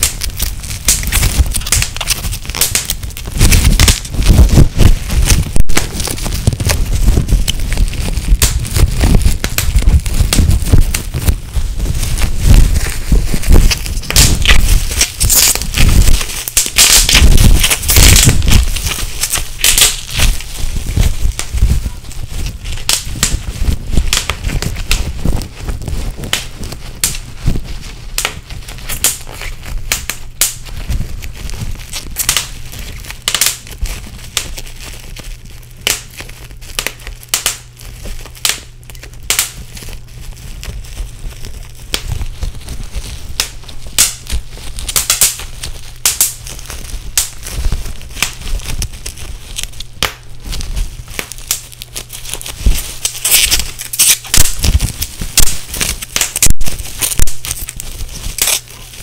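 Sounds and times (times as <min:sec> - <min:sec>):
bubble wrap popping: 0:00.0 - 0:59.0
steady low hum: 0:00.0 - 0:59.0.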